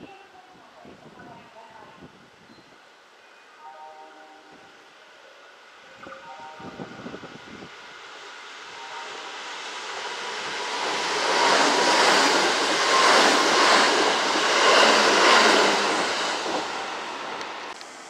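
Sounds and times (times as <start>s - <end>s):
electric train passing: 2.8s - 18.0s.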